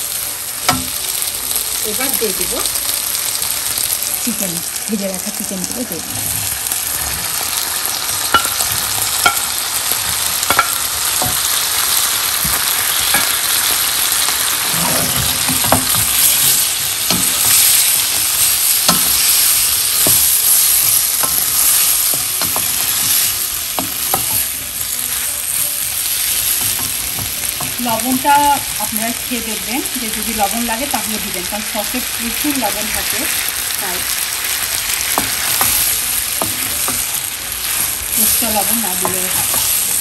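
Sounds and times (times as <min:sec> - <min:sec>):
food sizzling in a wok: 0:00.0 - 0:40.0.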